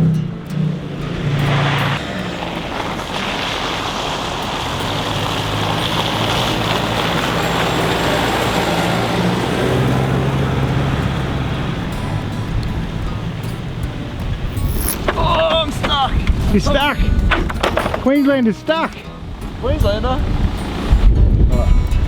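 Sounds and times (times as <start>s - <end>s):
engine running under load: 0.0s - 18.0s.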